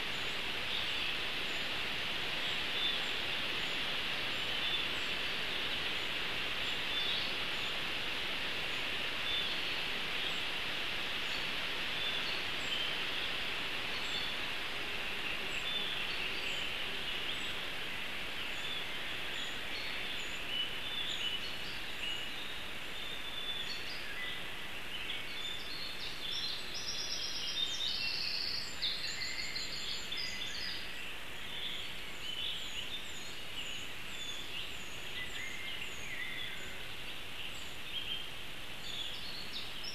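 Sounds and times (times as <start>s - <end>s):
songbirds singing: 0.0s - 39.9s
steady forest hiss: 0.0s - 39.9s.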